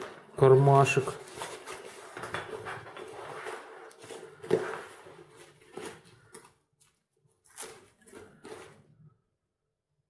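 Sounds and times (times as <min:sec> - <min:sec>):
fabric bag rustling: 0:00.0 - 0:09.1.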